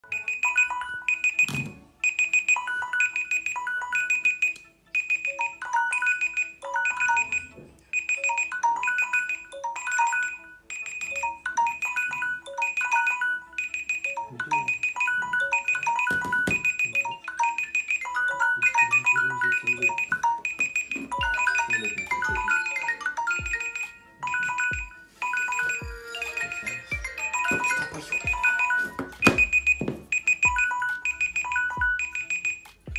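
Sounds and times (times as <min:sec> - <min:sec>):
phone ringtone chime melody: 0:00.0 - 0:32.9.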